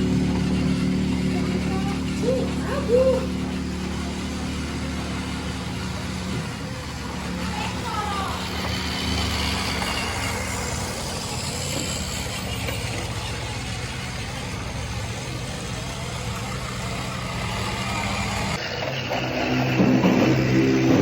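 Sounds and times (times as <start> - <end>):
toy truck motor and gears humming: 0.0 - 21.0.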